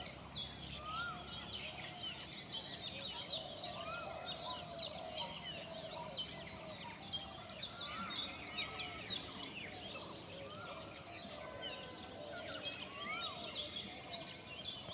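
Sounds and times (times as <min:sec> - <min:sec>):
birds chirping chorus: 0:00.0 - 0:14.9
lower wavering bird calls: 0:00.0 - 0:14.9.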